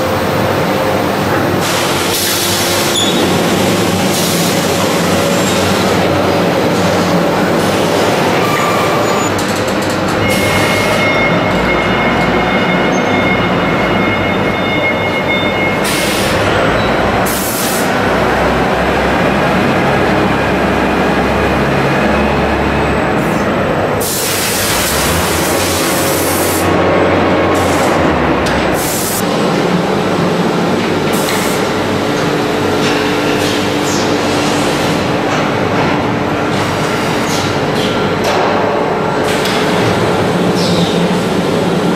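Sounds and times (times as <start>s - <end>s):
machinery rumble and clatter: 0.0s - 41.9s.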